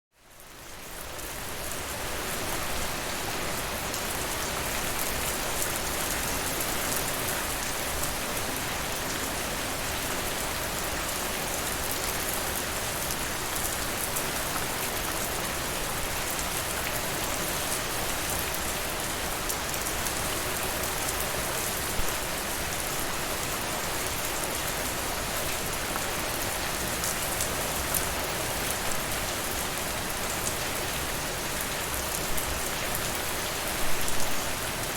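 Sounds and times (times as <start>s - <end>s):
steady rain falling: 0.2s - 34.9s.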